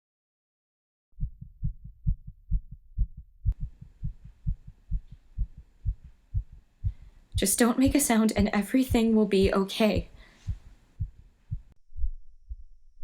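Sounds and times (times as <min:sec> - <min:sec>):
heartbeat double thumps: 0:01.2 - 0:13.0.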